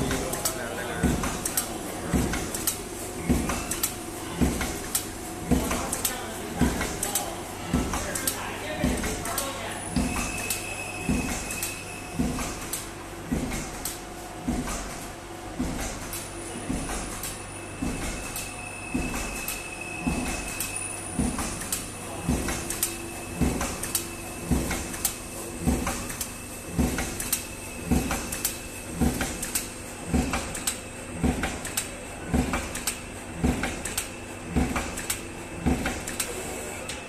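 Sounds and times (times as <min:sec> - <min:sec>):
stamping machine clacking: 0:00.0 - 0:36.3
machine hum and whine: 0:00.0 - 0:37.0.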